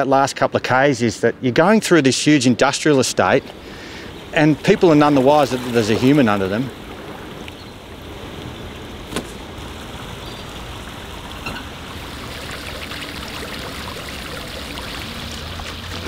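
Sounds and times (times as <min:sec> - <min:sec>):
river water running: 0:00.0 - 0:16.0.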